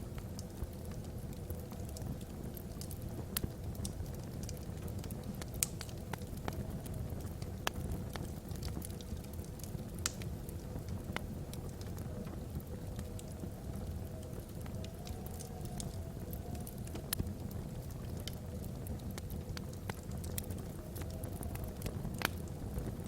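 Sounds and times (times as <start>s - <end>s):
fire crackling and popping: 0.0s - 23.0s
low rumble of flames: 0.0s - 23.0s.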